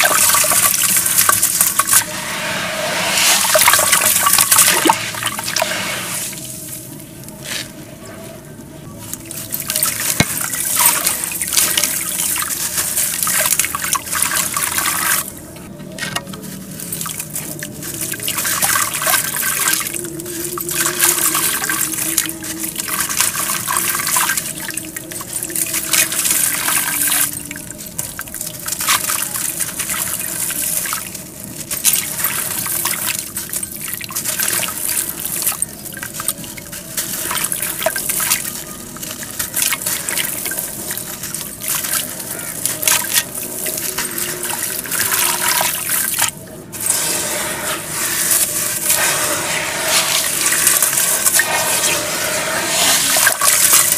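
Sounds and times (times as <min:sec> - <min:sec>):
dirt pouring into water: 0:00.0 - 0:06.6, 0:09.3 - 0:15.3, 0:16.9 - 0:53.9.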